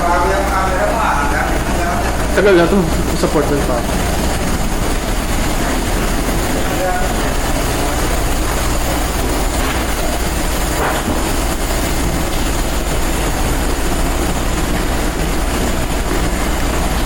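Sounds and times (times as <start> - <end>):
low machinery hum: 0.0 - 17.0
ventilation rushing roar: 0.0 - 17.0.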